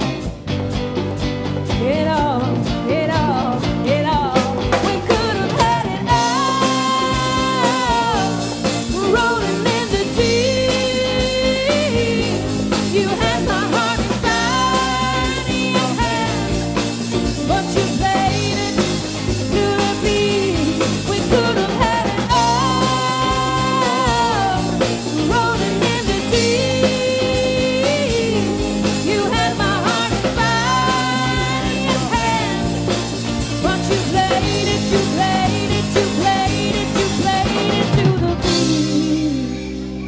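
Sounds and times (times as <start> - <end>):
soul-pop band with singing: 0.0 - 40.0.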